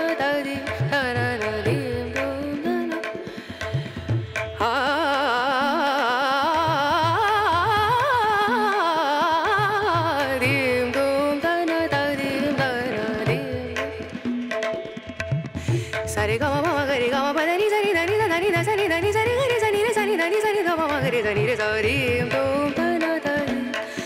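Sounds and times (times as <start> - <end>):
ornamented melody in indian classical style: 0.0 - 24.0.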